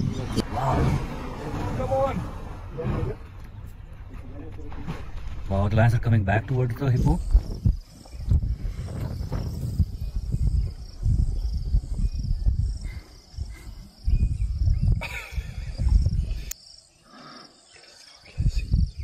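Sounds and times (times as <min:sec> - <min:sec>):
wind rumbling on microphone: 0:00.0 - 0:16.6, 0:18.2 - 0:19.0.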